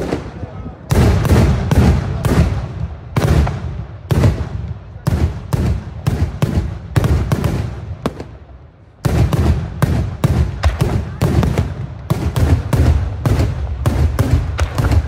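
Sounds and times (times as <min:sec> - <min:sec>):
fireworks bursting with loud bangs: 0:00.0 - 0:15.0.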